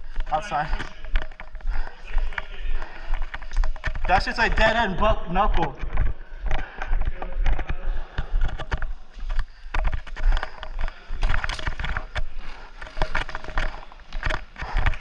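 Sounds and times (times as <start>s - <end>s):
footsteps and gear rattling: 0.0s - 15.0s.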